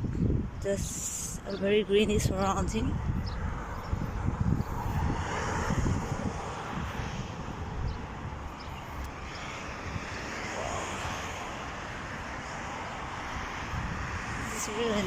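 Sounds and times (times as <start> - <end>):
wind buffeting microphone: 0.0 - 15.0
outdoor rushing noise: 2.8 - 15.0.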